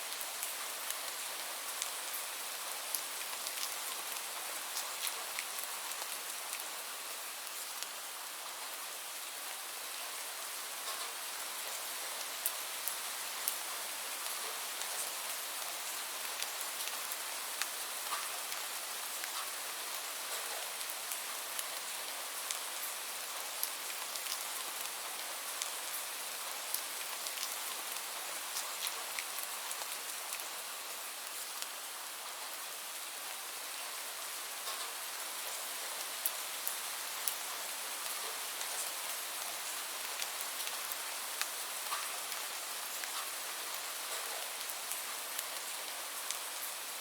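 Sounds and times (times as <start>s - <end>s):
raindrops ticking nearby: 0.1s - 6.7s, 10.8s - 11.8s, 12.4s - 30.6s, 34.6s - 46.9s.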